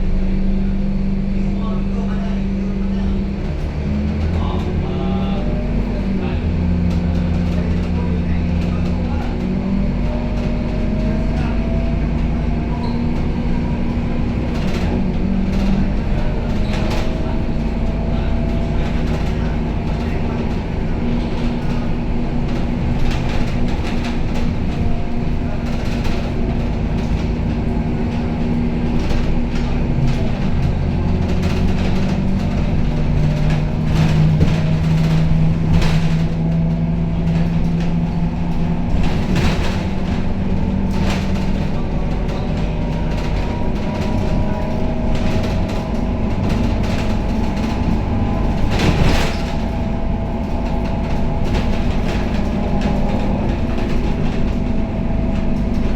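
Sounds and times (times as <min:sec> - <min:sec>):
bus diesel engine running: 0:00.0 - 0:55.9
rattles and knocks: 0:05.4 - 0:55.9.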